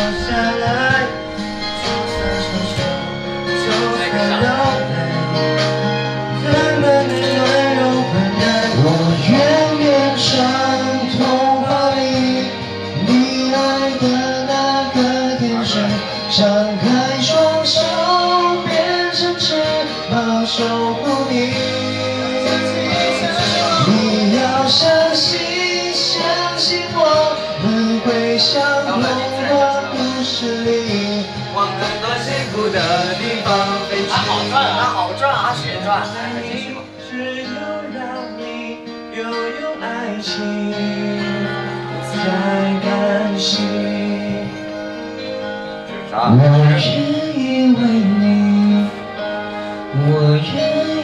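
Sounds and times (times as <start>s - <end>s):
pop song with singing: 0.0s - 51.0s.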